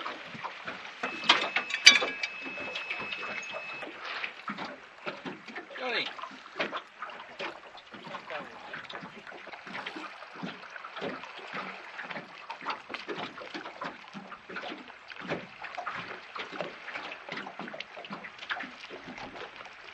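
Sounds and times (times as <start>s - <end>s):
waves lapping against a boat hull: 0.0s - 19.9s.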